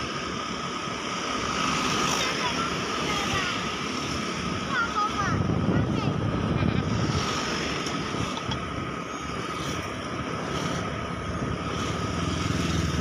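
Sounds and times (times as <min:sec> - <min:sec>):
traffic passing: 0:00.0 - 0:13.0
wind and road noise: 0:00.0 - 0:13.0
motorcycle engine running: 0:02.0 - 0:13.0.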